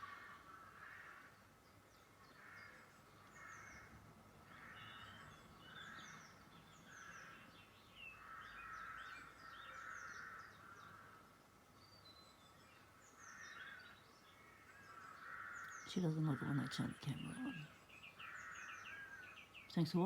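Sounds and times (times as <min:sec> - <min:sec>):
harsh bird calls: 0:00.0 - 0:01.5, 0:02.2 - 0:11.3, 0:12.8 - 0:20.0.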